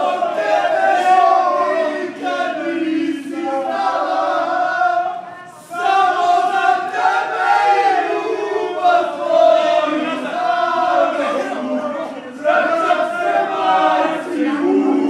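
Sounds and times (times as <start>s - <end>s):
young men singing in unison: 0.0s - 15.0s.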